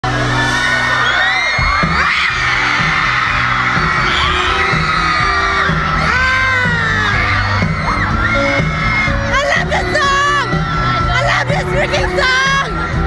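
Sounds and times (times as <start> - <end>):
crowd screaming and whooping: 0.0 - 13.0
loud music over speakers: 0.0 - 13.0
pulsing bass line: 0.0 - 13.0.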